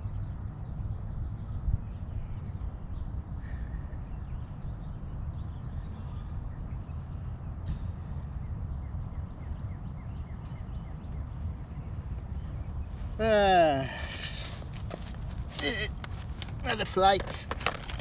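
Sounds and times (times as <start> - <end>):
small birds chirping: 0.0 - 18.0
wind buffeting microphone: 0.0 - 18.0.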